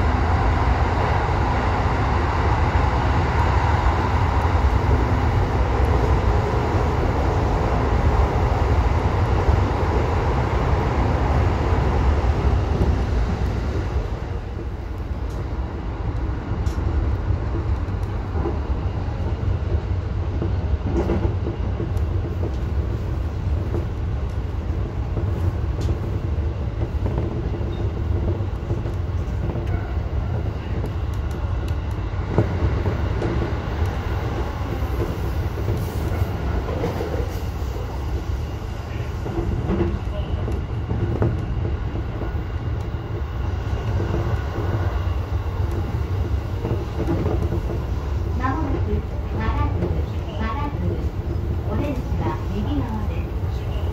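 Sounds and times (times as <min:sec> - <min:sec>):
train rushing through tunnel: 0:00.0 - 0:53.9
train wheels rumbling on rails: 0:00.0 - 0:53.9
rail joint clicks: 0:02.6 - 0:53.9.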